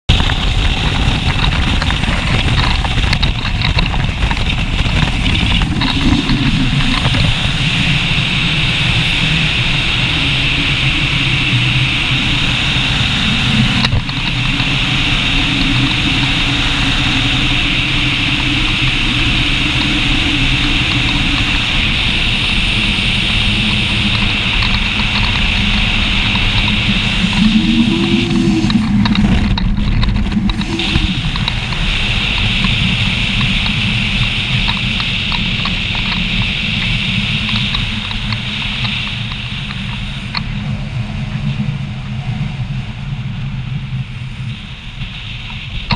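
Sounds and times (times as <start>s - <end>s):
boat engine drone: 0.0s - 45.9s
water rushing from hull: 0.1s - 45.9s.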